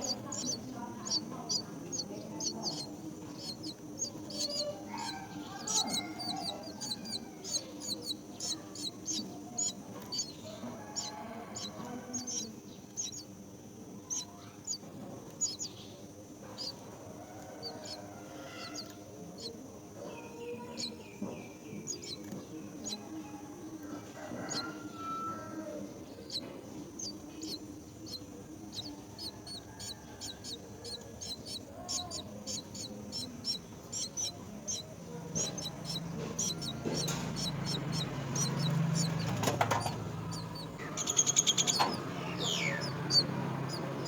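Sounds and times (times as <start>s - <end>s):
birds chirping high: 0.0s - 44.0s.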